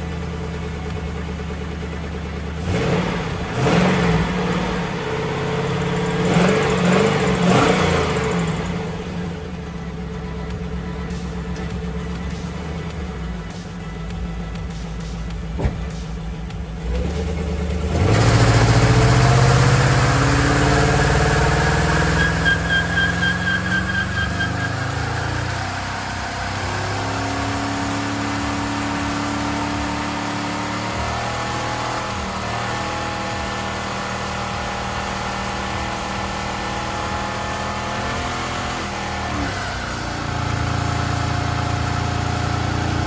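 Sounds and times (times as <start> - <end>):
car engine revving: 0.0 - 43.0
spinning tyres hissing: 0.0 - 43.0
high tyre squeal: 2.8 - 14.0, 18.0 - 43.0.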